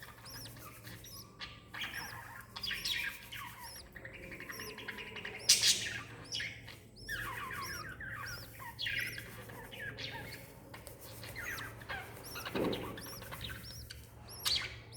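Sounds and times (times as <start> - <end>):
lovebirds chirping: 0.0 - 14.9.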